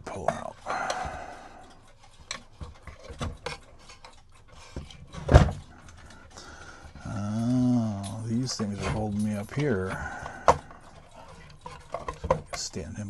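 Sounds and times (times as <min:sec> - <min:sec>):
metal and wood rubbing: 0:00.0 - 0:13.0
small clicks of clock parts: 0:00.0 - 0:13.0.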